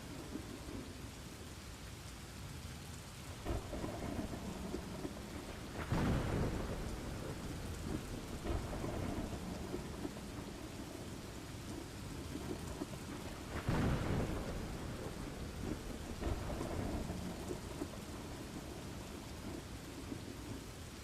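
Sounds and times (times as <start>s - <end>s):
steady rain: 0.0s - 21.0s
thunder rumbling: 3.3s - 21.0s.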